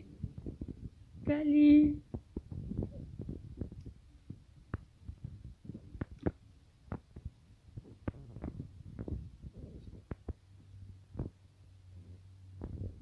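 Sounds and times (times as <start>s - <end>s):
soft thumps and rubbing: 0.0s - 1.3s, 2.0s - 11.4s.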